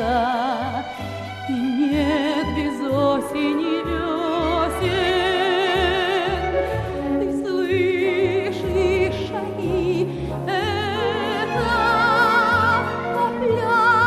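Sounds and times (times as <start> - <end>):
slow instrumental song: 0.0 - 14.0.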